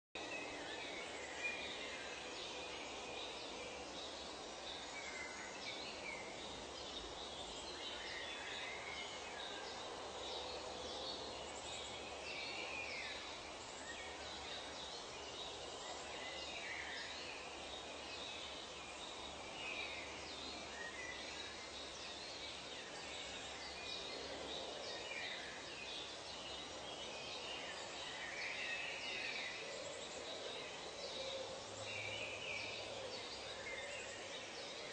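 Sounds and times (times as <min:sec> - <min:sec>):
steady hiss: 0:00.2 - 0:34.9.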